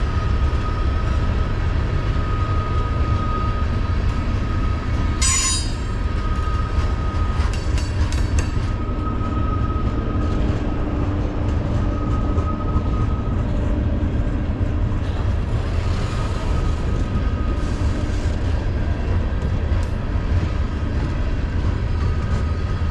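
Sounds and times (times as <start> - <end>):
freight train cars rumbling: 0.0 - 22.9.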